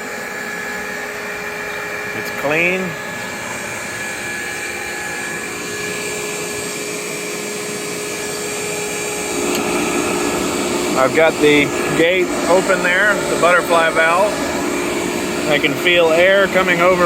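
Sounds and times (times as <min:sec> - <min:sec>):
electric fan motor humming: 0:00.0 - 0:17.0.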